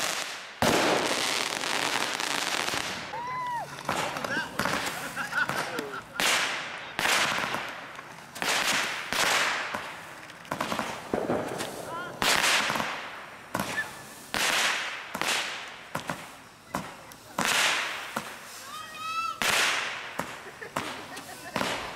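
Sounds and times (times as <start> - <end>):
fireworks bangs: 0.0 - 21.9.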